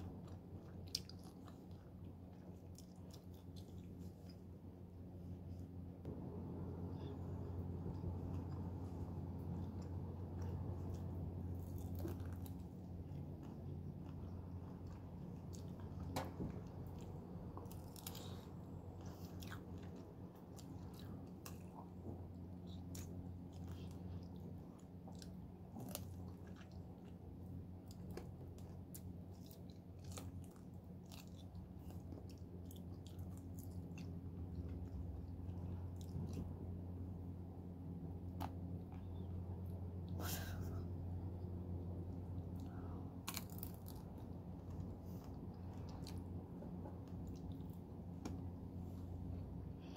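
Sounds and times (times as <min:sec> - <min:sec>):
person chewing fruit: 0:00.0 - 0:05.9, 0:07.0 - 0:49.9
steady low hum: 0:00.0 - 0:49.9.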